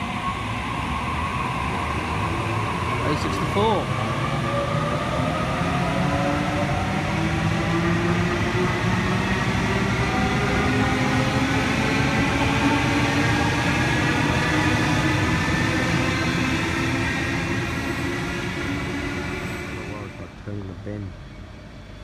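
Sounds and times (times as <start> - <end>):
rumble of wheels on rail: 0.0 - 22.0.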